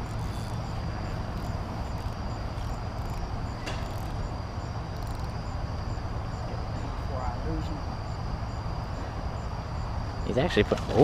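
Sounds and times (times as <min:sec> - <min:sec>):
insects chirping in a high trill: 0:00.0 - 0:11.0.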